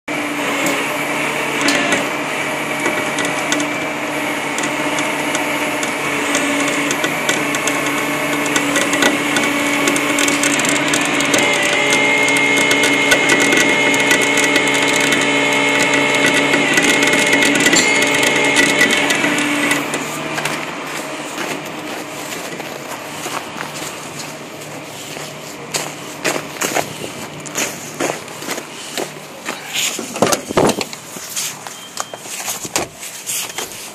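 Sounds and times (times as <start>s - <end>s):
higher whine: 0.1s - 33.8s
winch mechanical whine: 0.1s - 33.9s.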